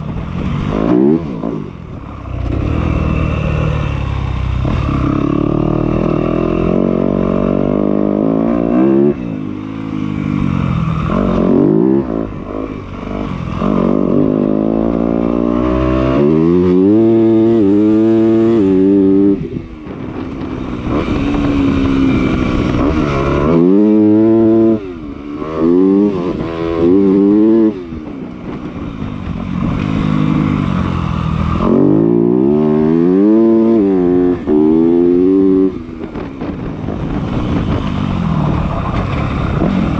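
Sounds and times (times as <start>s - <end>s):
two-stroke motorbike engine revving: 0.0s - 39.9s.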